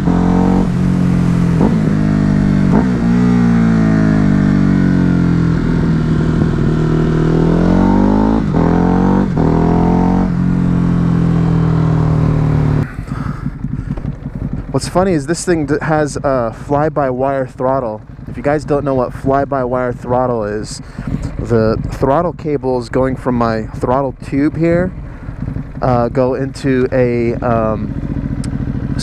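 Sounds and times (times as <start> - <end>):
motorcycle engine: 0.0 - 29.0.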